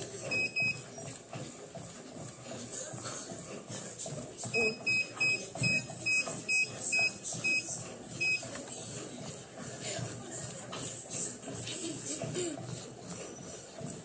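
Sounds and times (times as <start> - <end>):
jogging footfalls on treadmill belt: 0.0 - 14.0
treadmill console beeps: 0.0 - 14.0.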